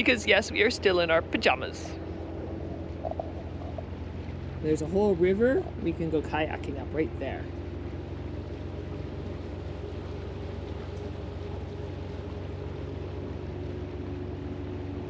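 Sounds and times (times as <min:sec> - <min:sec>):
boat engine humming: 0:00.0 - 0:15.0
water and wind hiss: 0:00.0 - 0:15.0.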